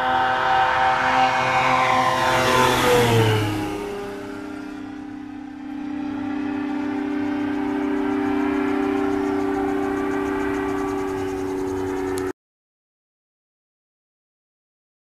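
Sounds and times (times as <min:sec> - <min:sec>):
light airplane engine drone: 0:00.0 - 0:12.4.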